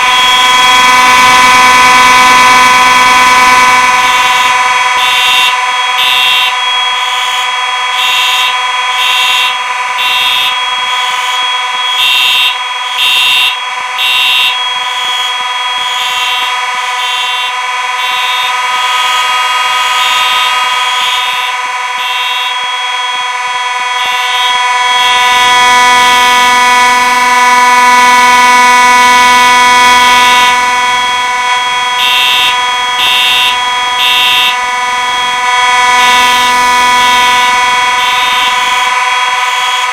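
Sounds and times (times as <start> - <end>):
fire alarm buzzing tone: 0.0 - 39.9
fire alarm horns pulsing: 0.0 - 39.9.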